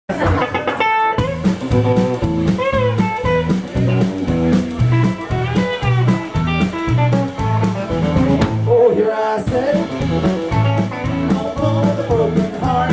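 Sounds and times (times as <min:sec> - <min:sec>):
electric guitar: 0:00.1 - 0:12.9
live blues band playing: 0:00.1 - 0:12.9.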